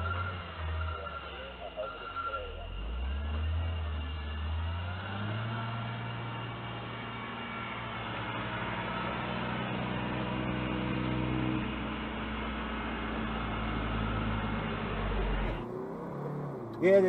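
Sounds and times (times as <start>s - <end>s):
diesel loader engine droning: 0.0s - 17.0s.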